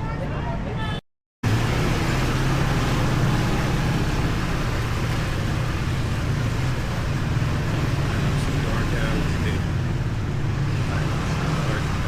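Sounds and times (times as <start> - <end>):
road and wind noise: 0.0 - 12.0
motorbike engine hum: 1.4 - 12.0.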